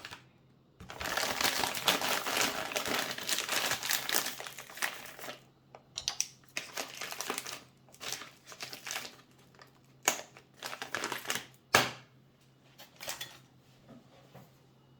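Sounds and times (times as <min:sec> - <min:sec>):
crinkling and rustling handling: 0:00.0 - 0:11.7, 0:12.4 - 0:14.6.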